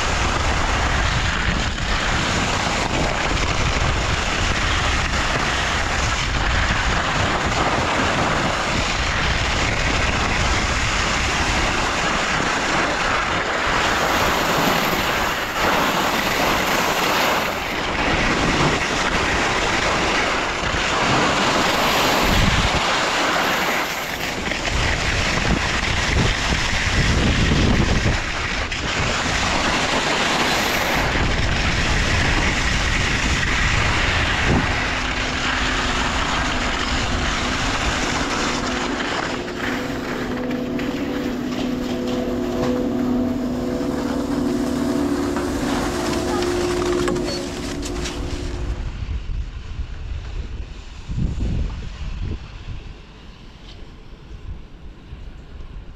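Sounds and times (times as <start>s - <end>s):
skis scraping over snow: 0.0s - 48.9s
wind on microphone: 0.0s - 55.9s.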